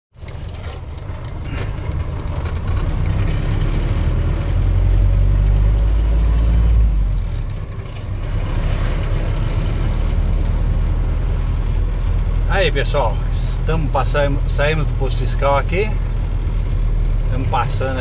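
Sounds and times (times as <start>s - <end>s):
road noise: 0.1s - 18.0s
truck engine drone: 0.2s - 18.0s.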